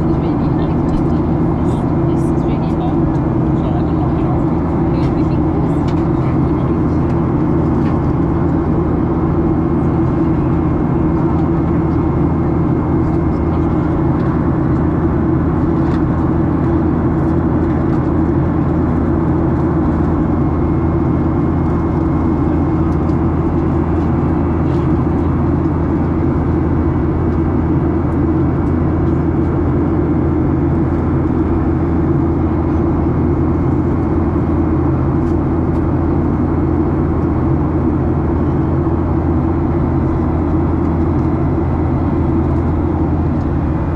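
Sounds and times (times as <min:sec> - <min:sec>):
airliner engines droning in cabin: 0:00.0 - 0:43.9.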